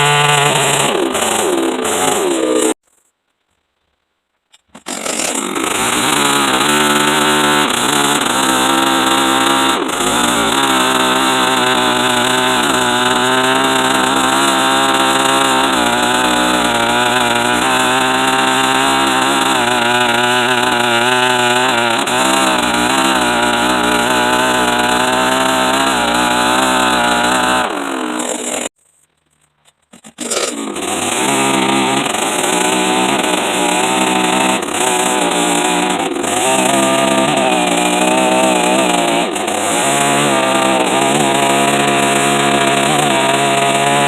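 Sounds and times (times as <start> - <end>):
small chainsaw cutting wood: 0.0 - 2.8, 4.6 - 28.8, 29.8 - 44.0.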